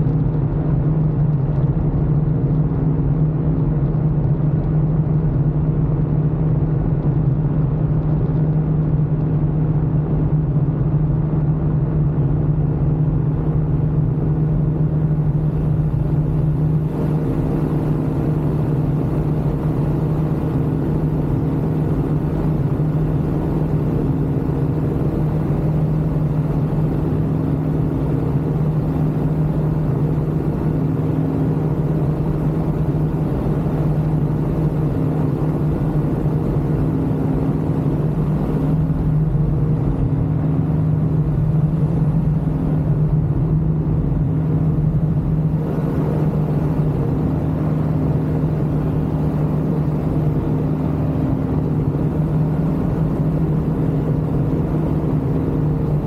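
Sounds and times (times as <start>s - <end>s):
ultralight aircraft engine drone: 0.0s - 56.0s.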